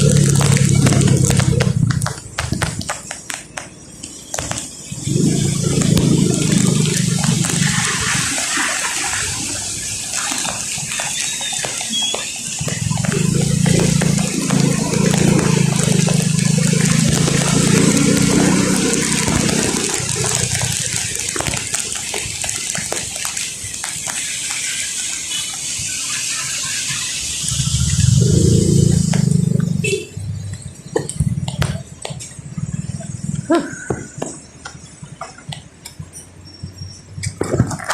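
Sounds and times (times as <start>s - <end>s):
rain and tyre spray hiss: 0.0s - 37.9s
vehicle engines running: 0.0s - 37.9s.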